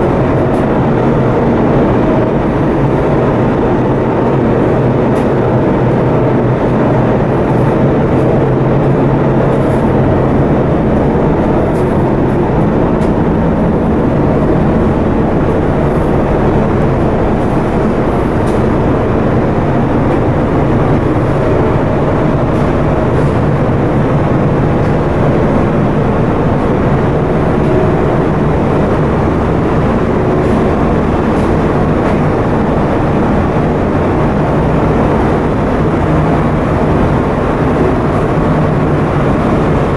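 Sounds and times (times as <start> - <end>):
ship diesel engine droning: 0.0 - 39.9.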